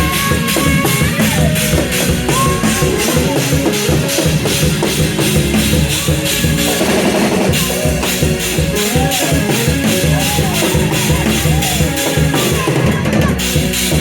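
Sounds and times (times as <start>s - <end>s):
pitch sliding voice: 0.0s - 13.6s
bass and drums: 0.0s - 14.0s
church praise band playing: 0.0s - 14.0s
shaker percussion beat: 0.0s - 14.0s.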